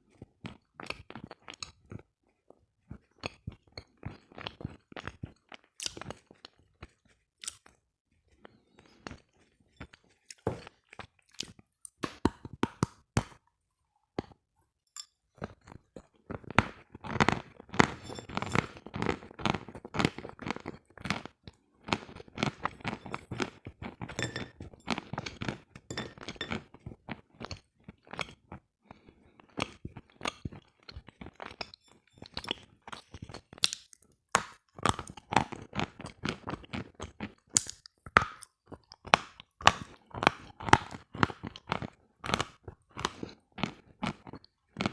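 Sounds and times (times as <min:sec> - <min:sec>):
chewing and crunching: 0:00.0 - 0:13.4, 0:15.3 - 0:44.9.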